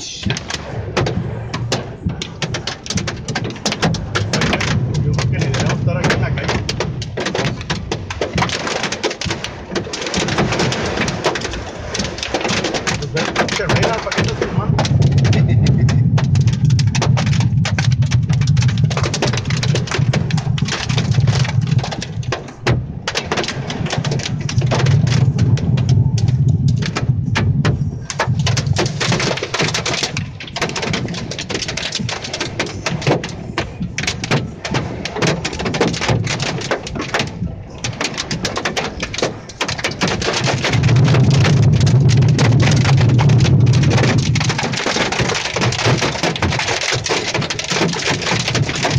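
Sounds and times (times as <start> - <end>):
low rumble: 0.0 - 8.5, 9.3 - 46.8
hail and rain on car roof: 0.0 - 48.9.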